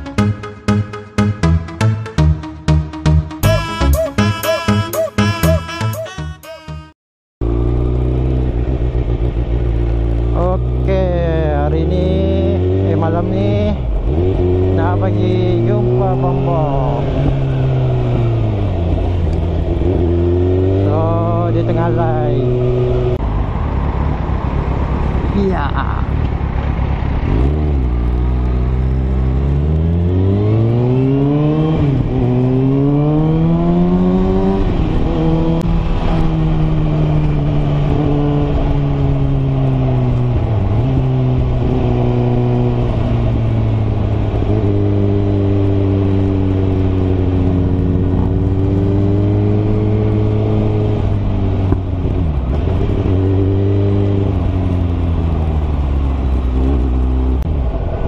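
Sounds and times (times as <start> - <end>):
motorcycle engine accelerating: 7.4 - 58.0.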